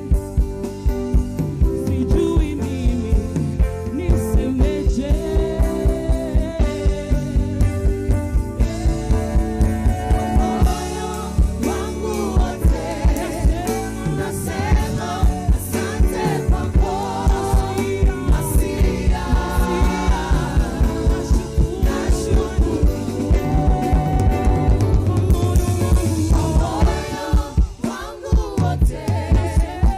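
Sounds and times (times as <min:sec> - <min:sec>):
bass: 0:00.0 - 0:29.9
people singing: 0:01.7 - 0:29.9.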